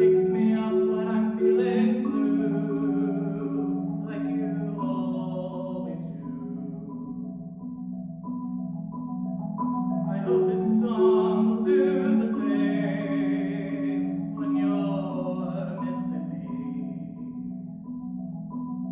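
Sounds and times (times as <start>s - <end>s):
marimba playing chords: 0.0s - 18.9s.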